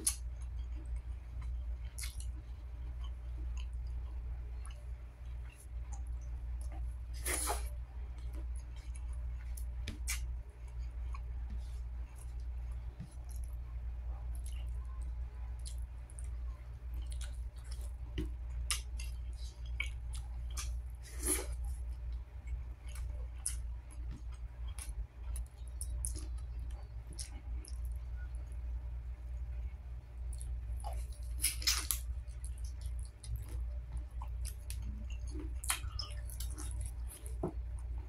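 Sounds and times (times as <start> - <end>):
person chewing food: 0.0 - 28.6, 30.2 - 38.0.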